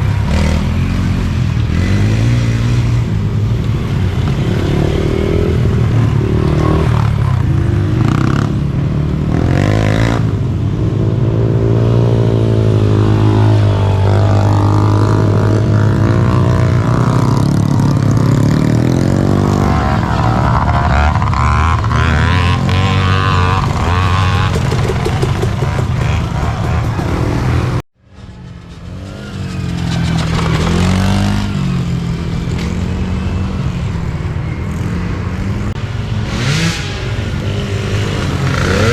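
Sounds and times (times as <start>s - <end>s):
small atv engines racing: 0.0s - 38.9s.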